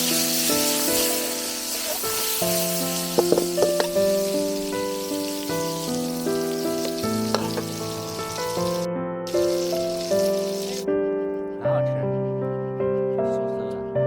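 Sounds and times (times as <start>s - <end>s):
fish sizzling in oil: 0.0s - 11.6s
background music of sustained notes: 0.0s - 14.0s.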